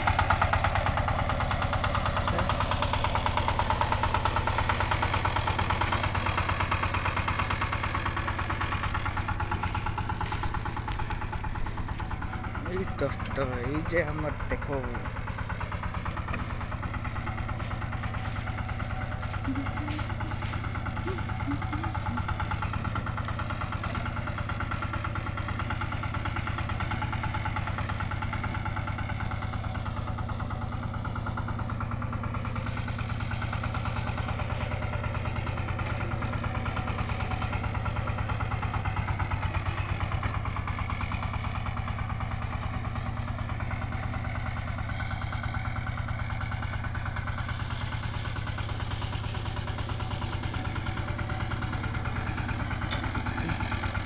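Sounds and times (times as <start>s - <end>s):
walk-behind tractor engine running: 0.0s - 54.0s.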